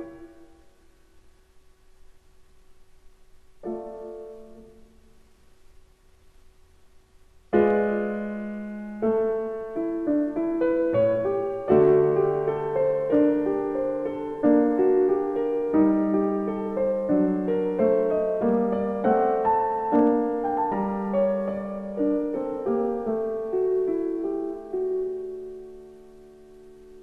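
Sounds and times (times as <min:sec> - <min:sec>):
slow solo piano: 0:00.0 - 0:01.0, 0:03.5 - 0:05.2, 0:07.4 - 0:27.0.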